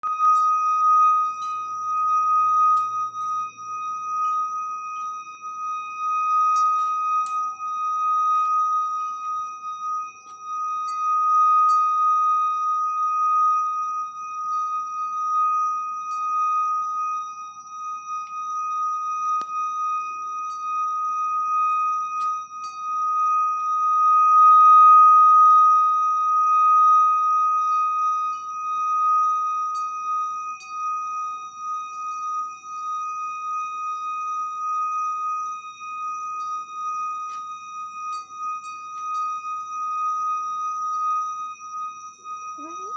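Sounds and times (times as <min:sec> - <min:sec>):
high-pitched whine: 0:00.0 - 0:42.9.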